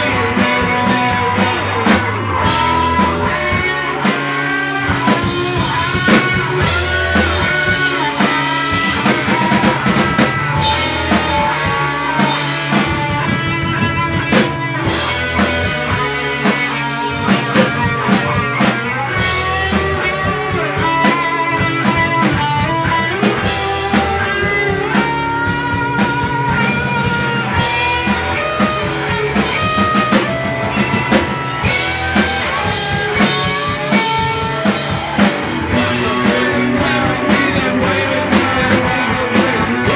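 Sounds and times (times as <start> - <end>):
rock band playing: 0.0 - 39.9
steady drumming: 0.0 - 39.9.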